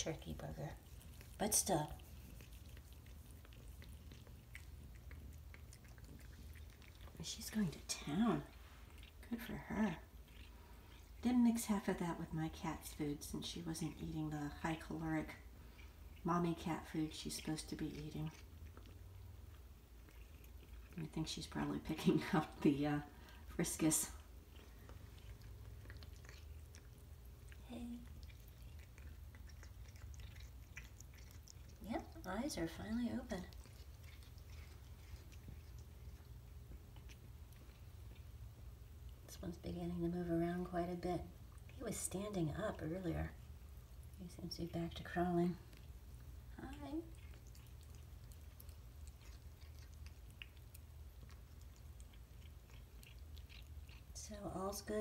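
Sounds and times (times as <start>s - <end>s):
cat chewing wet food: 0.0s - 55.0s
low steady hum: 0.0s - 55.0s.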